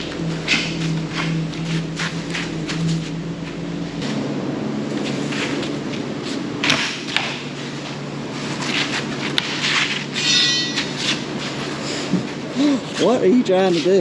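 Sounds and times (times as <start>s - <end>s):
engine rumbling: 0.0s - 14.0s.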